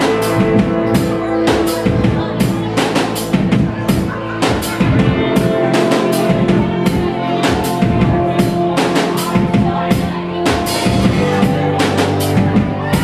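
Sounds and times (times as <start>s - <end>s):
band playing live: 0.0s - 13.0s
drum kit strikes: 0.0s - 13.0s.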